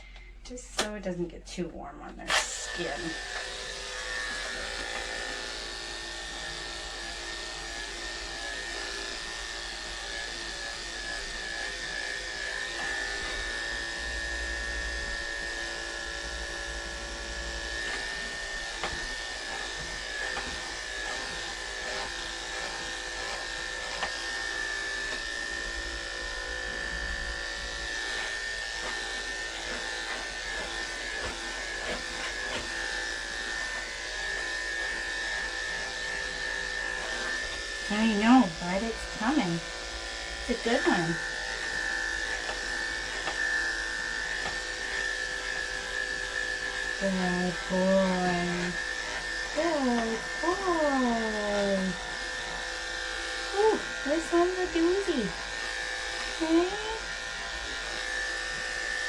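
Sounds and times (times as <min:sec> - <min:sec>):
electric clippers buzzing: 0:02.1 - 0:59.0.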